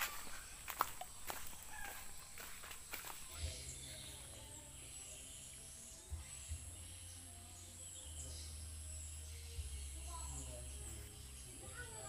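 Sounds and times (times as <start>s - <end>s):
bird chirps: 0.0s - 12.0s
high-pitched insect drone: 0.0s - 12.0s.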